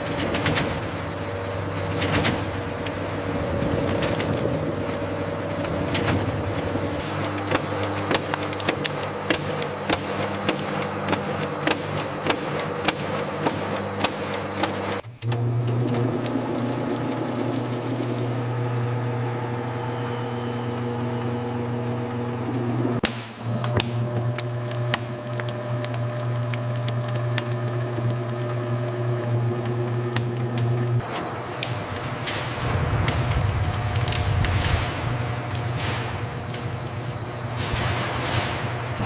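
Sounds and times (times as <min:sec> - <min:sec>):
factory machinery humming: 0:00.0 - 0:39.0.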